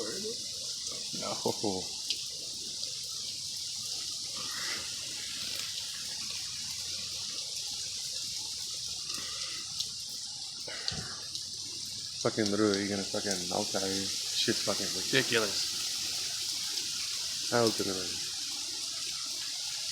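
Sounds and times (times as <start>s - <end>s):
steady rain hiss: 0.0s - 19.9s
small drip ticks: 0.1s - 19.8s.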